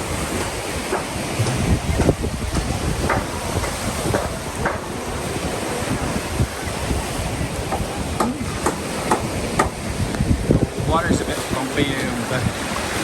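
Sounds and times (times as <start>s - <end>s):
lake water lapping: 0.0s - 13.0s
wind rumbling on microphone: 0.0s - 13.0s.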